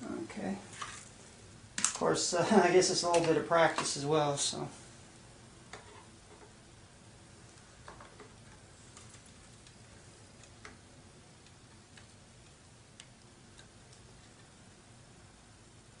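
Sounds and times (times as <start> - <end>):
quiet hiss: 0.0 - 16.0.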